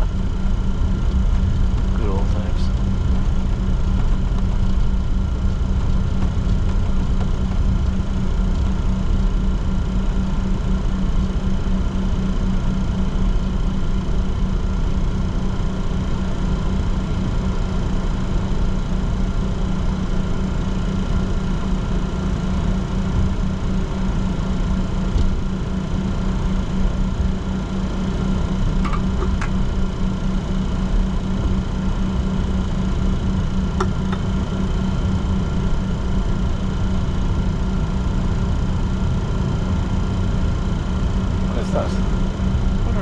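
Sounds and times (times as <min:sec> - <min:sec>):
jet engines idling: 0:00.0 - 0:43.0.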